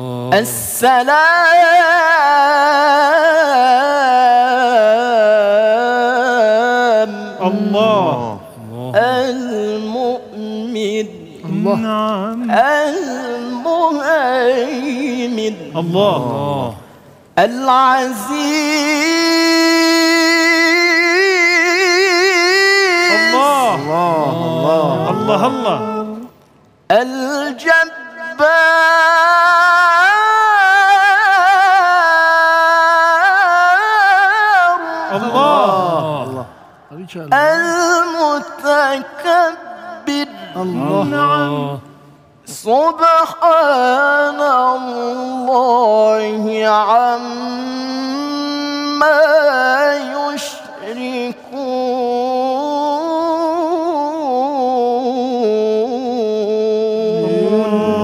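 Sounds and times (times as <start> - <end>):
man reciting melodically: 0.0 - 58.0.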